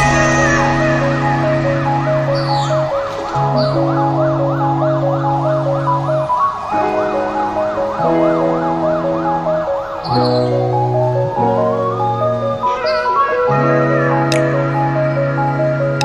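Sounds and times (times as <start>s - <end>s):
synth background music: 0.0s - 16.0s
tone sweeping up and down: 0.0s - 16.0s.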